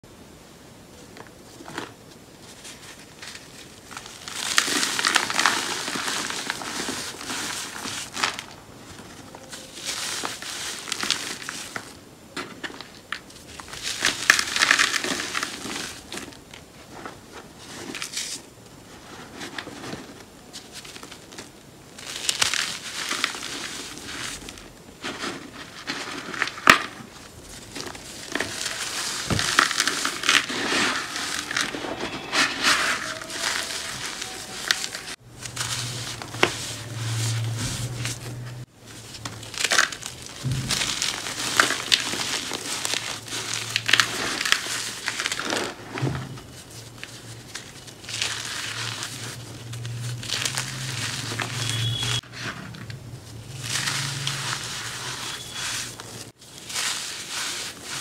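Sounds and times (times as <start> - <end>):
cornstarch crunching and crackling: 1.7 - 18.4, 19.5 - 45.8, 46.6 - 58.0.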